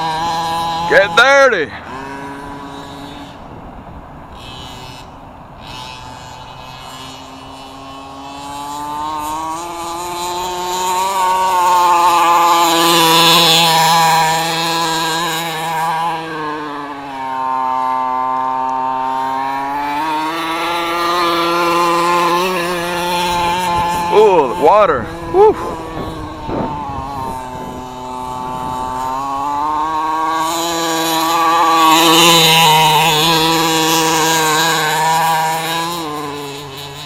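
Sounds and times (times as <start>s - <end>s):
model truck engine revving: 0.0s - 37.0s.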